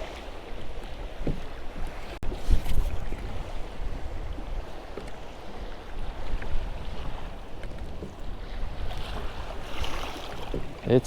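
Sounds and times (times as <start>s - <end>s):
waves lapping against kayak hull: 0.0s - 11.0s
wind buffeting microphone: 0.0s - 11.0s.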